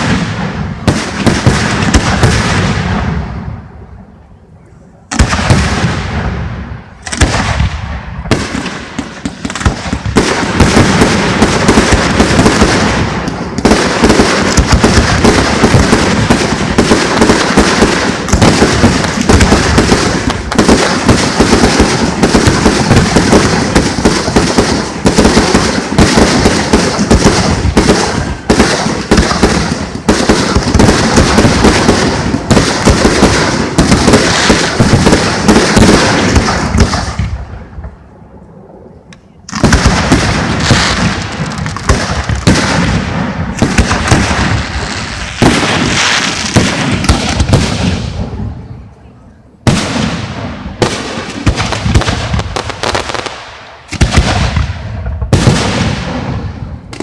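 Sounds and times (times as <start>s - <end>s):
fireworks bangs and crackle: 0.0s - 4.1s, 5.0s - 38.2s, 39.0s - 57.0s.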